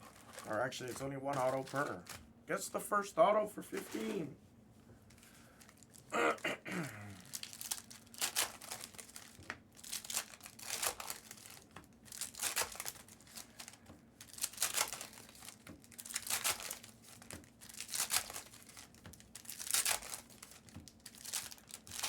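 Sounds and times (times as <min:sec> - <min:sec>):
foil wrappers crinkling and tearing: 0:00.0 - 0:02.7, 0:05.0 - 0:06.1, 0:07.0 - 0:22.0.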